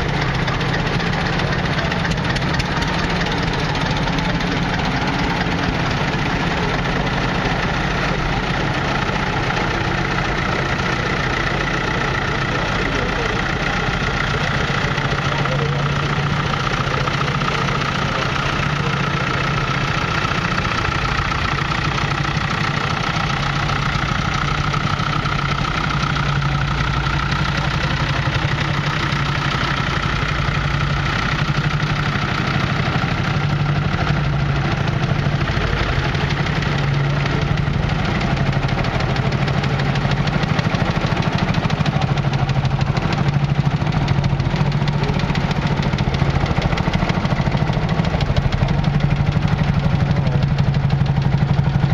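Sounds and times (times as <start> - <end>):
tractor engines running: 0.0 - 51.9.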